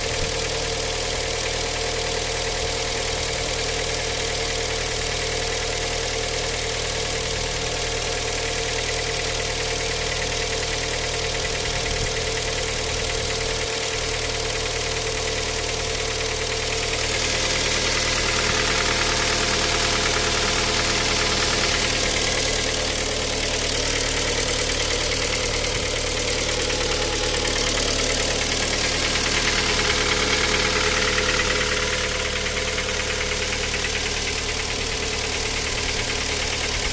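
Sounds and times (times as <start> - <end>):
car engine idling with knocking: 0.0 - 36.9.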